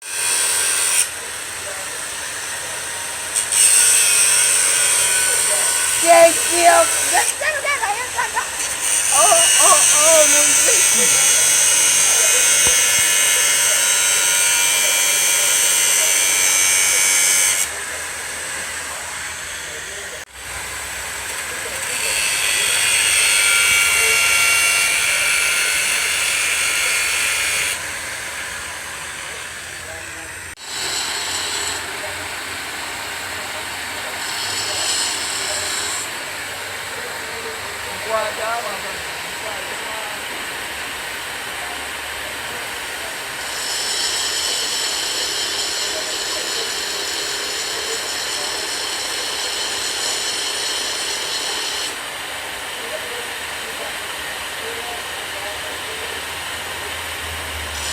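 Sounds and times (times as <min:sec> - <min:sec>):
angle grinder cutting metal: 0:00.0 - 0:57.9.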